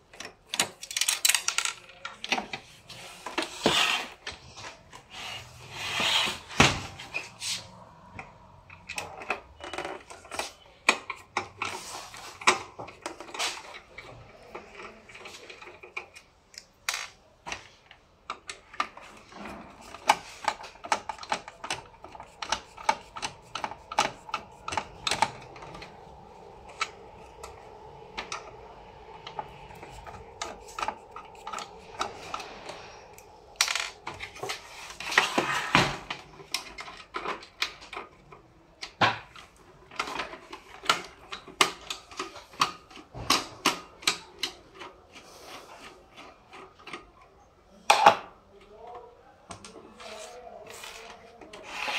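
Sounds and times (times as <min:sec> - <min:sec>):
plastic parts clicking and knocking: 0:00.0 - 0:05.0, 0:08.1 - 0:48.7.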